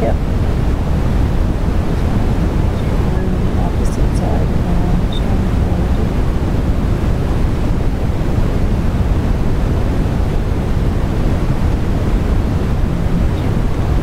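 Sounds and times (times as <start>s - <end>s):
deep rumble: 0.0s - 14.0s
loud rushing noise: 0.0s - 14.0s.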